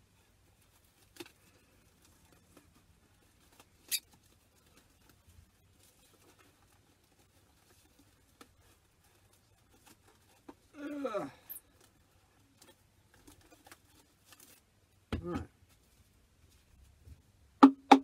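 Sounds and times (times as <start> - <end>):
plastic and cardboard rustling: 0.0 - 10.8, 11.4 - 17.4.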